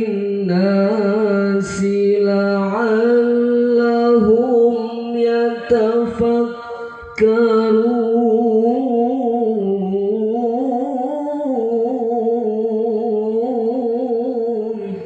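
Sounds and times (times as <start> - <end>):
person reciting melodically: 0.0 - 15.0.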